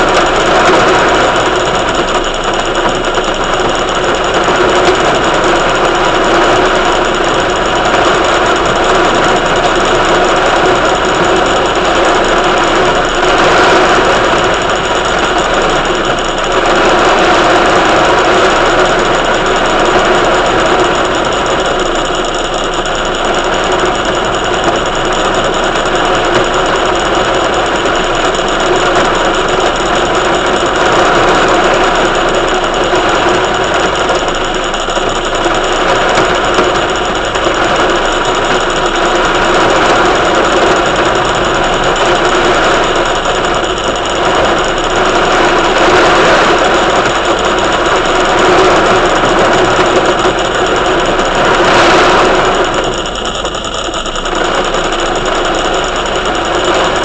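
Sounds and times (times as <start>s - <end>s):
engine-like running noise: 0.0s - 57.0s.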